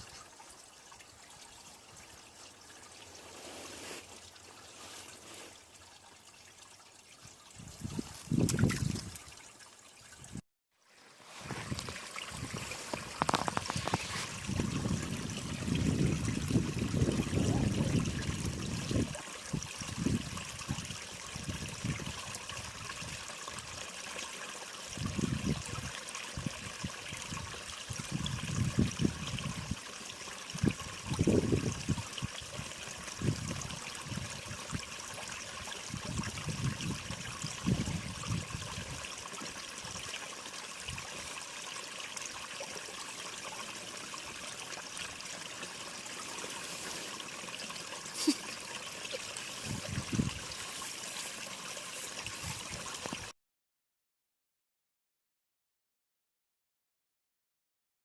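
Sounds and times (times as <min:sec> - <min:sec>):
mountain stream running: 0:00.0 - 0:53.3.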